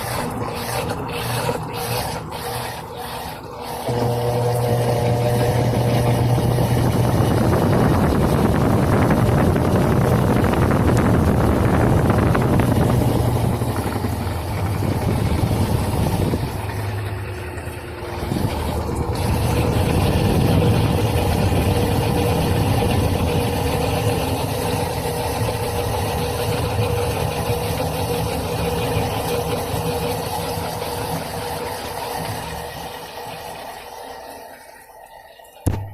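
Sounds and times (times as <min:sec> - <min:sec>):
washing machine motor humming: 0:00.0 - 0:35.9.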